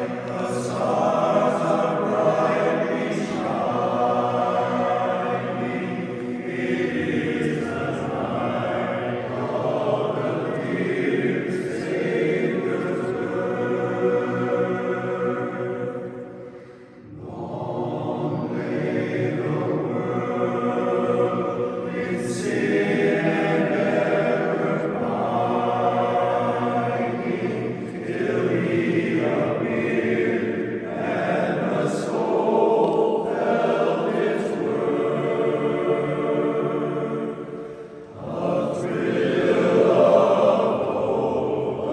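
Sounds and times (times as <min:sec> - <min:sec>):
chorus singing a cappella: 0:00.0 - 0:41.9.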